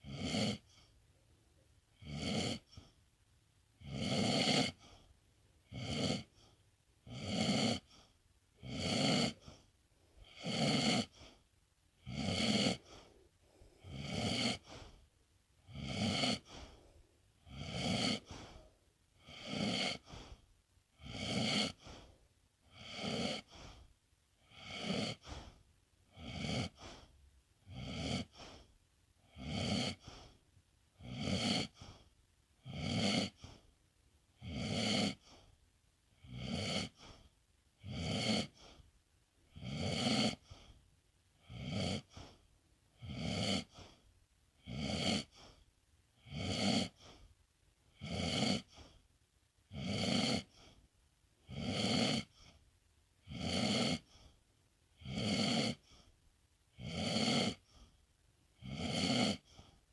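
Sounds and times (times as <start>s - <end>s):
pet snoring: 0.0s - 1.0s, 1.9s - 3.0s, 3.8s - 11.4s, 12.0s - 33.7s, 34.3s - 35.5s, 36.1s - 40.8s, 41.4s - 49.1s, 49.7s - 50.8s, 51.4s - 52.6s, 53.2s - 59.8s.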